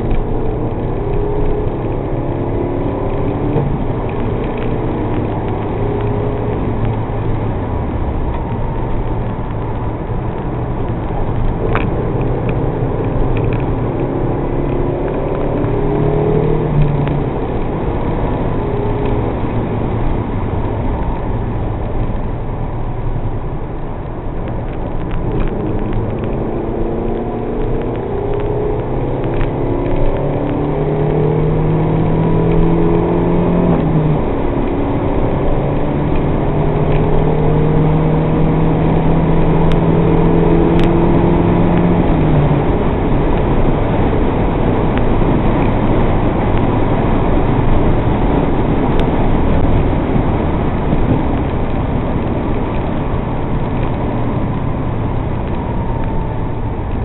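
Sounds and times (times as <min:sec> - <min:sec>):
car engine running hard: 0:00.0 - 0:57.0
road and wind noise: 0:00.0 - 0:57.0.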